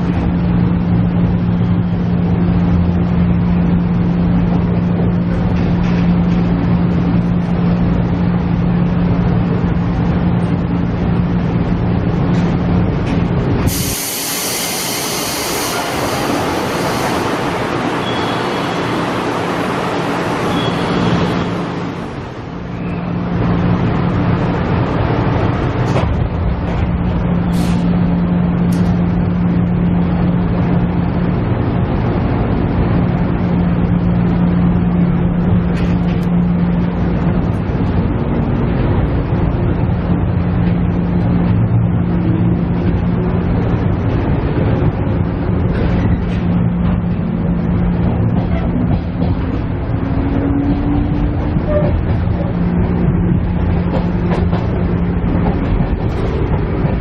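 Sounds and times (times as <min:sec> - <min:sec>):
diesel engine running: 0:00.0 - 0:57.0
train wheels rolling on track: 0:00.9 - 0:57.0.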